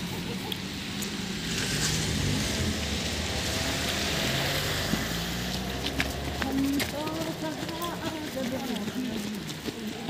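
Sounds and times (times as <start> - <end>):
vehicle passing on road: 0.0 - 10.0.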